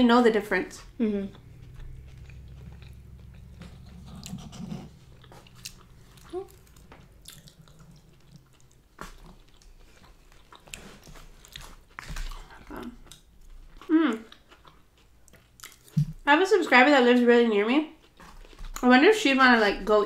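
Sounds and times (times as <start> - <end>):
people chewing food: 0.3 - 20.0.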